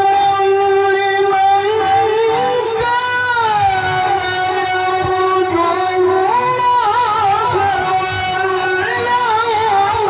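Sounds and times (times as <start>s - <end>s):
man chanting melodic recitation: 0.0s - 10.0s.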